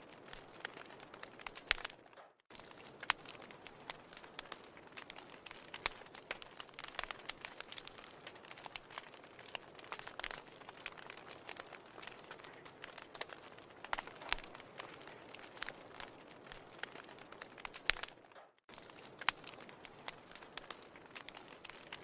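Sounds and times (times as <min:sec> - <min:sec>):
fireplace fire crackling: 0:00.0 - 0:22.0.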